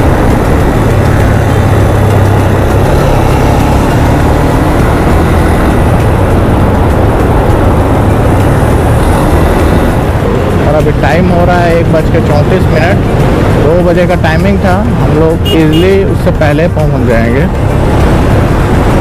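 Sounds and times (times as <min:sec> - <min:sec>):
wind rushing over microphone: 0:00.0 - 0:15.5, 0:16.3 - 0:19.0
motorcycle engine running: 0:00.0 - 0:19.0.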